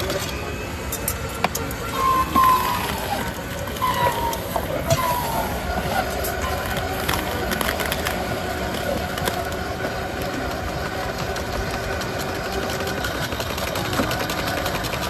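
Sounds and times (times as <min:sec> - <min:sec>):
juicer motor grinding: 0:01.0 - 0:15.0.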